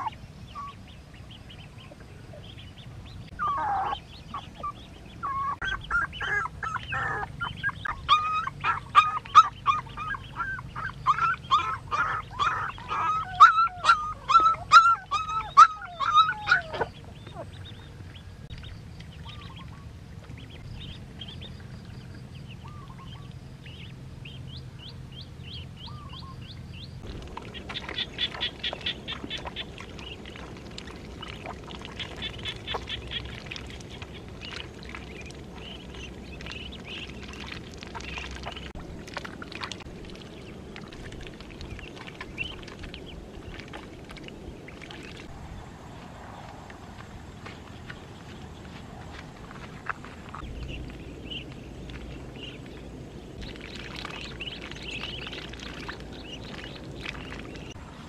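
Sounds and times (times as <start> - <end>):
ducklings peeping: 0.0 - 45.3, 47.4 - 57.8.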